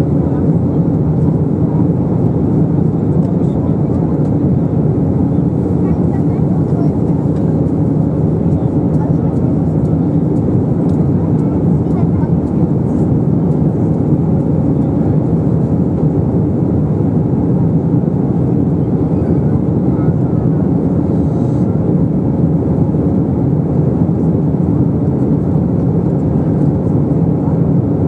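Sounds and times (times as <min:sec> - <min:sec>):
airplane cabin engine drone: 0:00.0 - 0:28.0.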